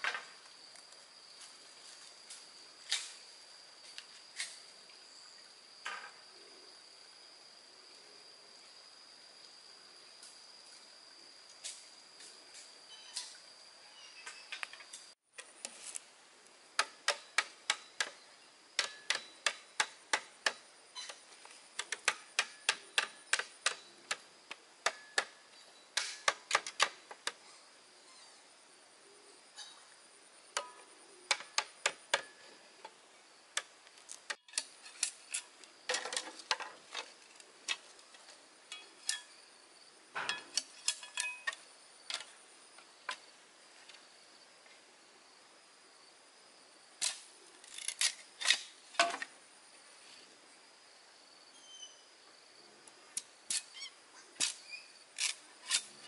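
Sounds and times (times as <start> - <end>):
faint high insect drone: 0.0 - 56.0.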